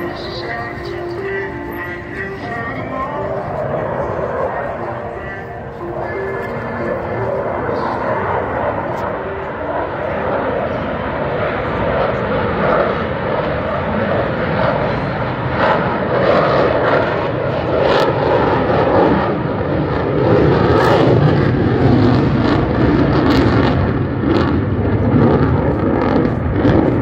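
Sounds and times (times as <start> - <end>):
airplane engine drone overhead: 0.0 - 27.0.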